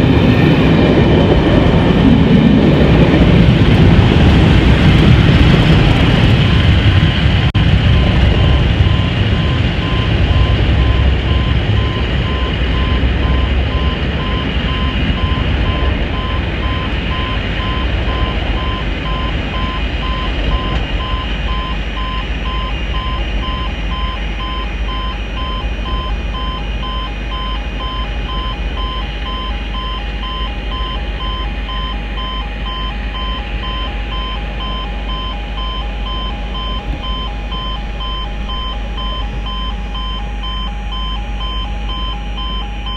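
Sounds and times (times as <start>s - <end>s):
diesel locomotive engine rumble: 0.0s - 42.9s
lower electronic beep: 2.6s - 42.9s
electronic warning beep: 6.0s - 42.9s.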